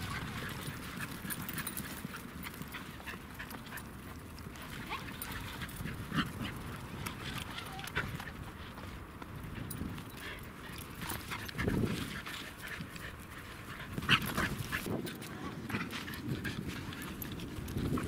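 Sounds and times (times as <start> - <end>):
dog panting: 0.0 - 18.0
dog running on dry grass: 0.0 - 18.0.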